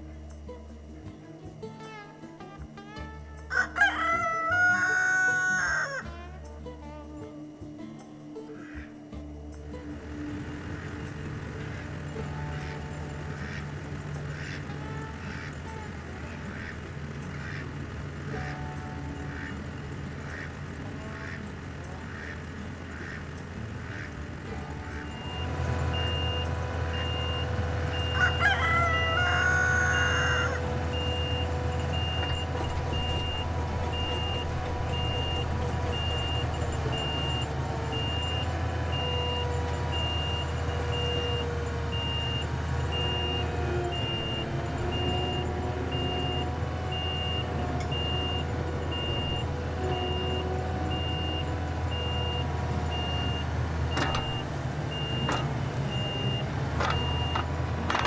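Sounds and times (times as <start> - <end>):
skid steer engine running: 0.0 - 58.0
rooster crowing: 3.4 - 6.3, 10.2 - 58.0
high warning beeps: 10.1 - 58.0.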